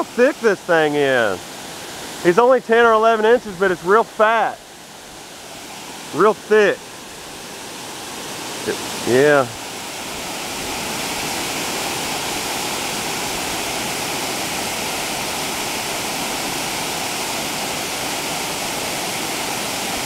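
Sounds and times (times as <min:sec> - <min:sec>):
water rushing over a dam: 0:00.0 - 0:20.0.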